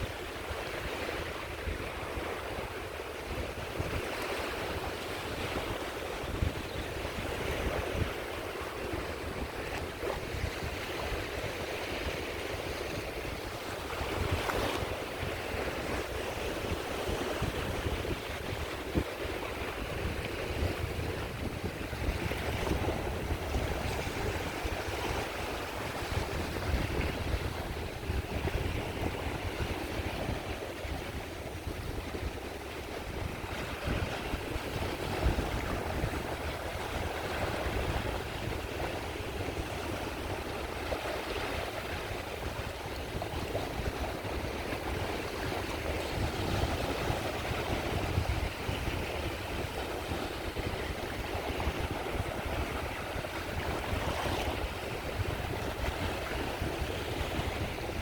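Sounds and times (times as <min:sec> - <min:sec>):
waves washing onto shore: 0:00.0 - 0:58.0
wind buffeting microphone: 0:00.0 - 0:58.0.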